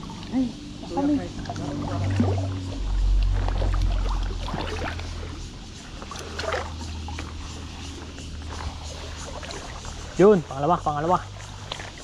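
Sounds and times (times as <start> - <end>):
low rumble: 0.0 - 11.6
water splashing and sloshing: 0.0 - 12.0.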